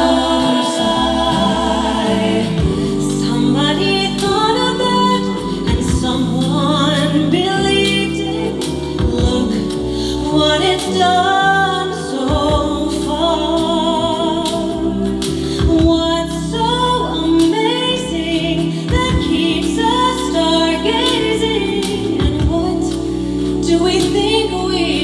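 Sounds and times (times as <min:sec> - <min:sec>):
voices singing in harmony: 0:00.0 - 0:25.0.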